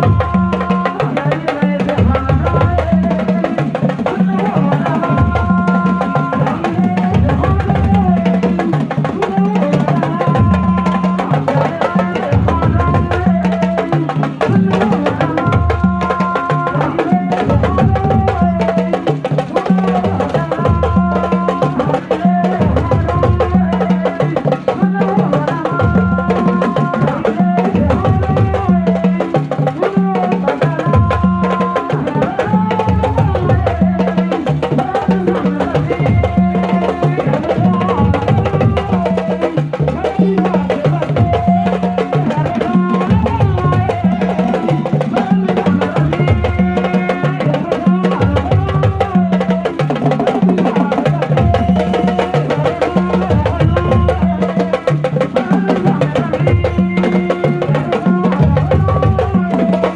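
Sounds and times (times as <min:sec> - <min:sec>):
music with steady drum beat: 0:00.0 - 0:59.9.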